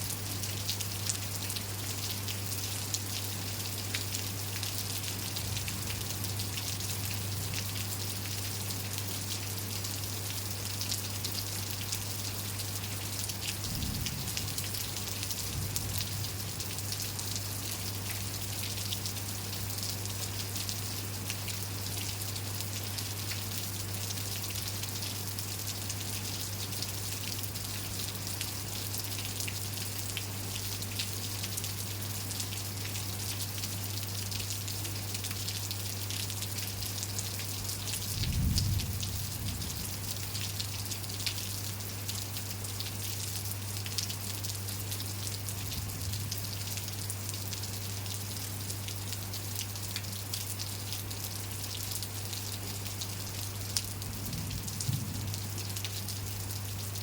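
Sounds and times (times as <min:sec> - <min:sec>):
steady rain with ticking drops: 0:00.0 - 0:57.0.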